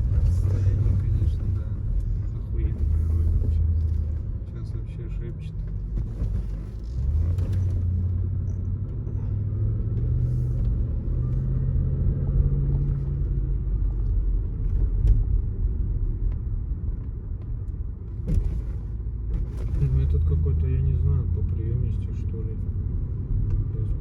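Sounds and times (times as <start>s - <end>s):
car engine accelerating: 0.0s - 24.0s
low road rumble: 0.0s - 24.0s.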